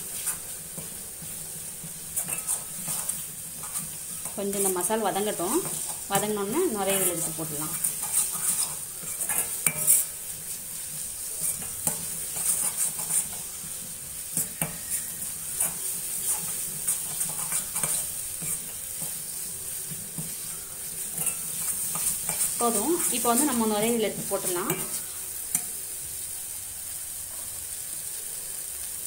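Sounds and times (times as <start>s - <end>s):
metal spatula scraping a pan: 0.0s - 26.3s
paste sizzling in oil: 0.0s - 29.0s.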